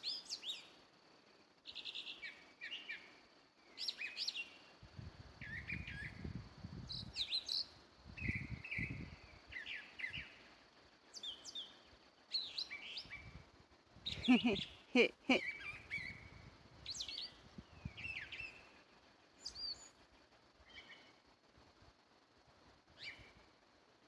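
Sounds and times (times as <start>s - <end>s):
songbird chirping and warbling: 0.0s - 0.8s, 1.6s - 4.7s, 5.4s - 13.4s, 14.0s - 21.2s, 23.0s - 23.4s.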